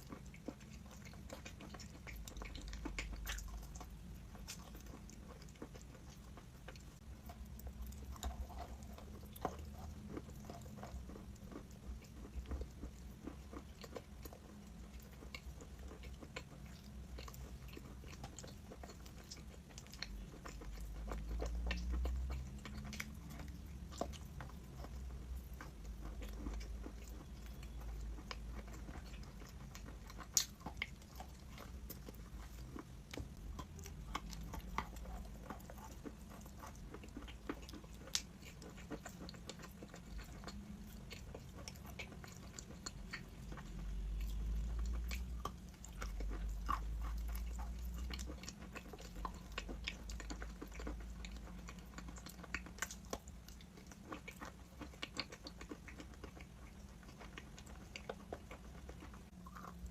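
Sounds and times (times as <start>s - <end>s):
person chewing crunchy chalk: 0.0s - 59.9s.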